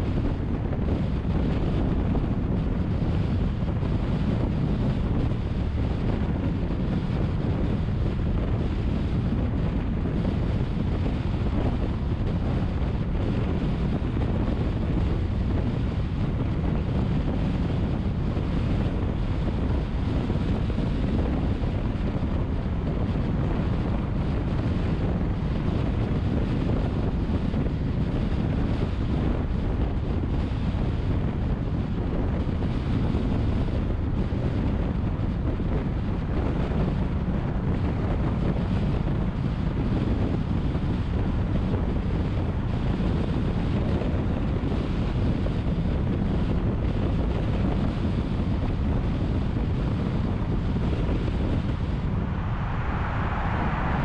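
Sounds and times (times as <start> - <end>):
car road and wind noise: 0.0 - 54.0.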